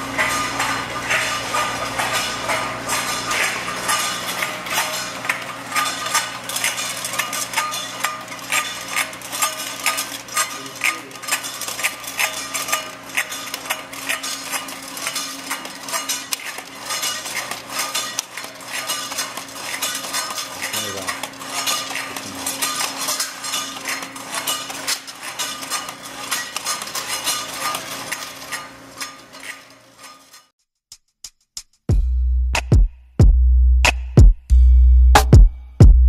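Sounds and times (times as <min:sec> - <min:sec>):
metal lids clinking: 0:00.0 - 0:30.4.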